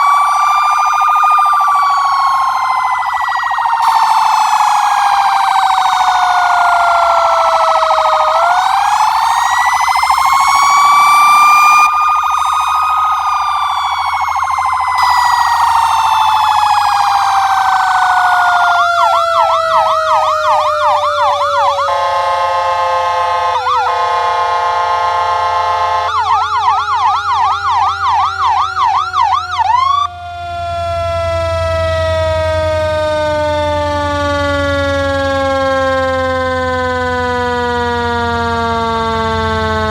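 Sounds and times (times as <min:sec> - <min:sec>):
ambulance siren wailing and yelping: 0:00.0 - 0:39.9
second siren tone sliding down: 0:00.0 - 0:39.9
siren horn-like blast: 0:00.0 - 0:39.9.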